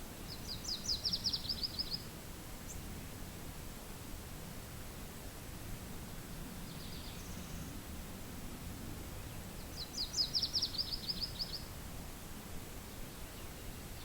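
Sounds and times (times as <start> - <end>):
steady low wind: 0.0 - 14.0.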